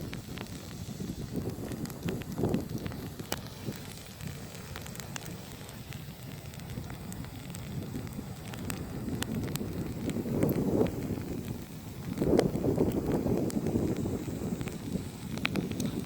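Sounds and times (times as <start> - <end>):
firewood crackling and popping: 0.0 - 16.0
low fire rumble: 0.0 - 16.0.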